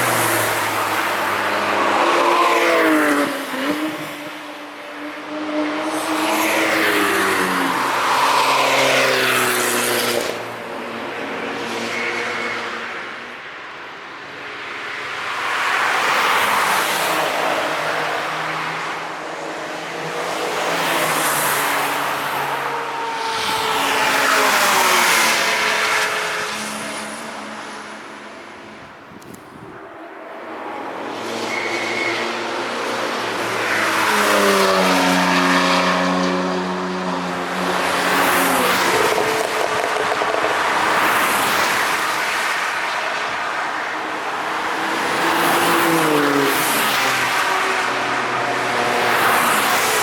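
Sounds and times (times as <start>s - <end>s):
cars driving past: 0.0s - 50.0s.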